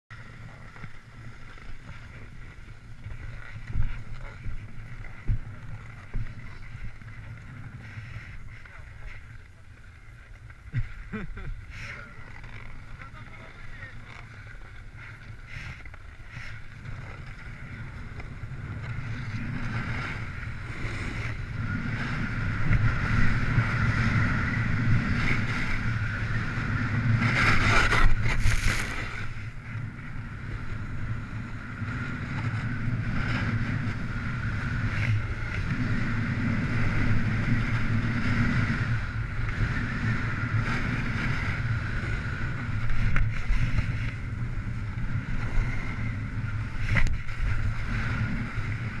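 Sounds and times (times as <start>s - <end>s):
snowboard scraping over snow: 0.1s - 49.0s
wind rushing over microphone: 0.1s - 49.0s.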